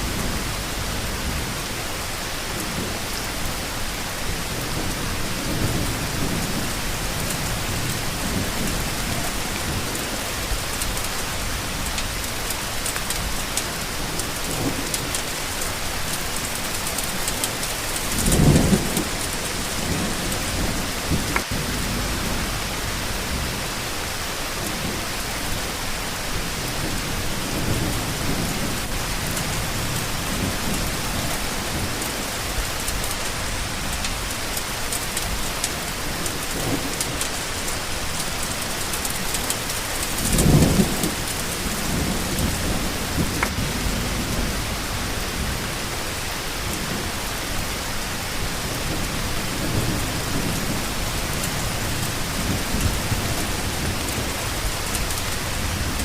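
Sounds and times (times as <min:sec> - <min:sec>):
heavy rain: 0:00.0 - 0:56.0
low thunder rumbles: 0:00.0 - 0:56.0.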